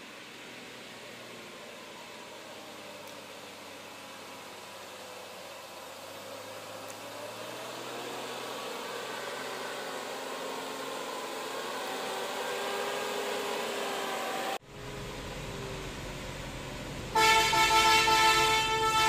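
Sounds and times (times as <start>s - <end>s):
diesel lorry engine droning: 0.0s - 19.0s.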